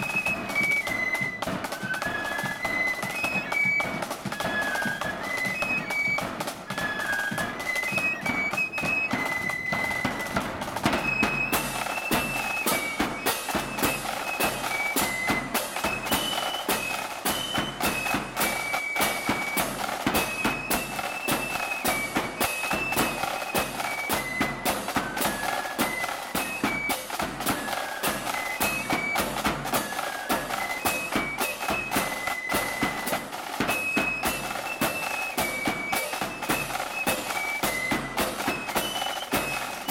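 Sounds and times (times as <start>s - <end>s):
flute band playing a march: 0.0s - 39.9s.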